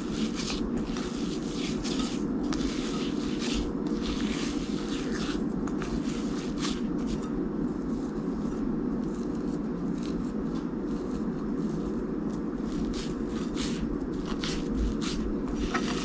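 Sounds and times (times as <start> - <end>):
hands squishing dough: 0.0 - 16.0
steady low hum: 0.0 - 16.0.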